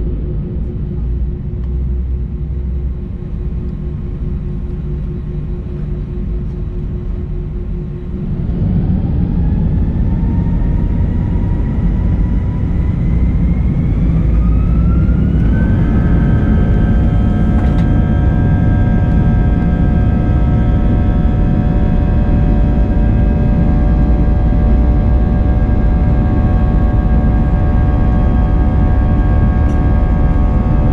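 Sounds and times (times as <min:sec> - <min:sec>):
jet engines spooling up: 0:00.0 - 0:30.9.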